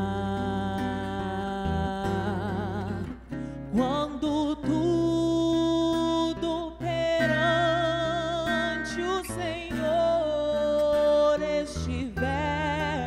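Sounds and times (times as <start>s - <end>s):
woman singing gospel song: 0.0s - 3.1s, 3.7s - 13.0s
fingered acoustic guitar: 0.0s - 13.0s.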